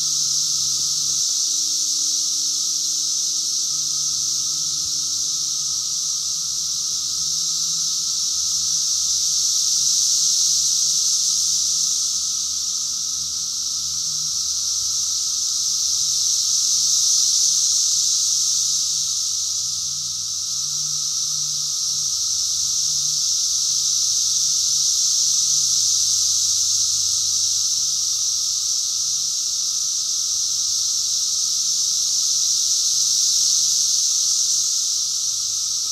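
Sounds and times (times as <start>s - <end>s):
cicadas shrill hum: 0.0s - 35.9s.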